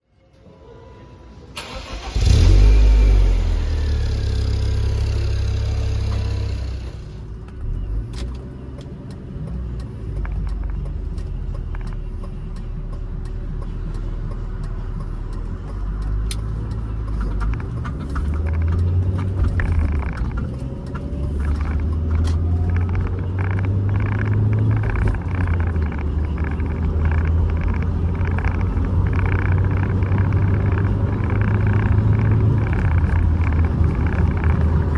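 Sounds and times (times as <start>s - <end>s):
car engine starting and idling: 1.5s - 34.9s.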